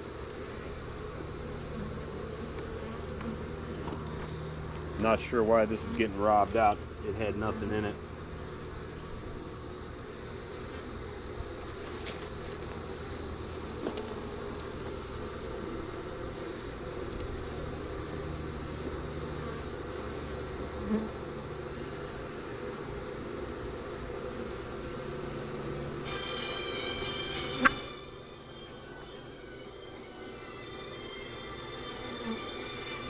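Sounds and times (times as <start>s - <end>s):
bees buzzing: 0.0s - 33.0s
high insect trill: 0.0s - 33.0s.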